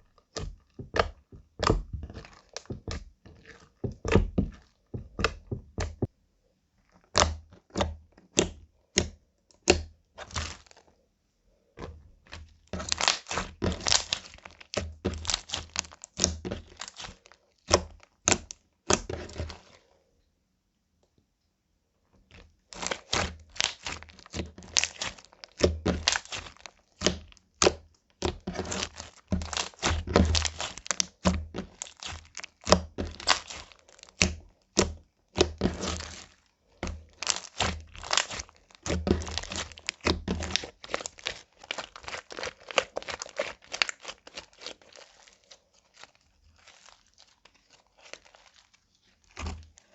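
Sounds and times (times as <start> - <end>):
slime squishing with sticky clicks: 0.0 - 6.1, 6.8 - 10.8, 11.7 - 19.8, 22.2 - 49.9.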